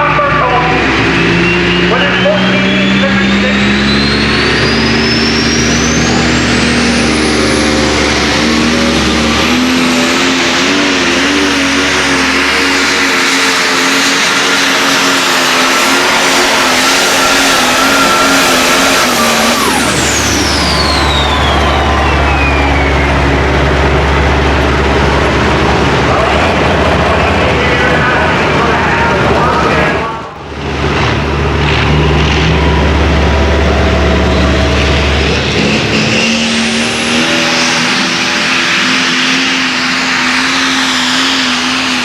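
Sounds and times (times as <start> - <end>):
diesel tractor engine: 0.0 - 42.0
turbo whine: 0.0 - 42.0.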